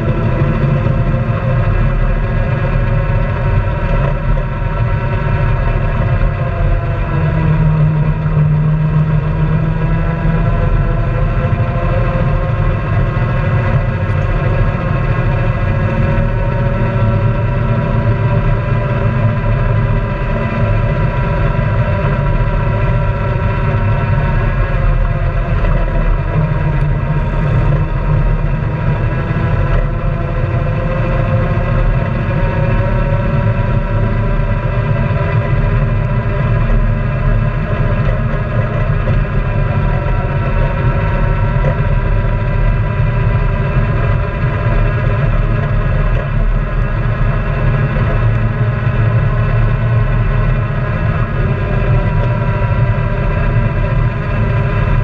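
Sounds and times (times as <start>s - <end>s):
utility vehicle engine running: 0.0s - 55.0s.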